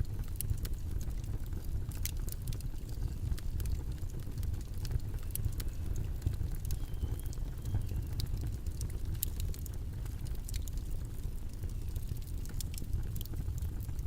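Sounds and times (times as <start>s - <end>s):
low rumbling background noise: 0.0s - 14.0s
sharp crackles and clicks: 0.0s - 14.0s.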